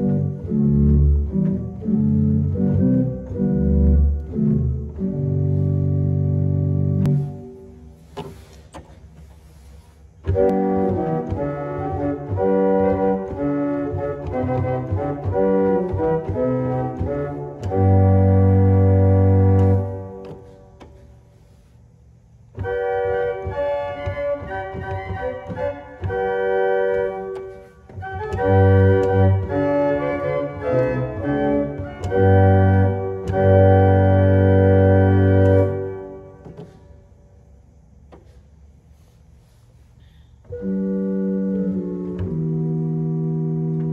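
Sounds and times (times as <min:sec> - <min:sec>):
pipe organ playing chords: 0:00.0 - 0:08.5, 0:09.2 - 0:20.9, 0:22.5 - 0:37.6, 0:40.4 - 0:43.9.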